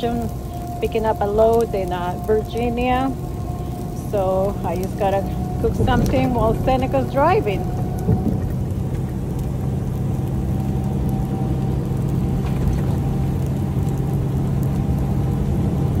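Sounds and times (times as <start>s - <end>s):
diesel truck engine drone: 0.0s - 16.0s
road noise: 0.0s - 16.0s.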